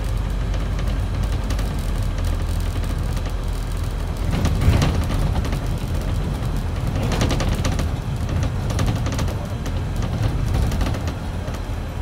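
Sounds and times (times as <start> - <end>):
bus diesel engine hum: 0.0 - 12.0
road and body noise: 0.0 - 12.0.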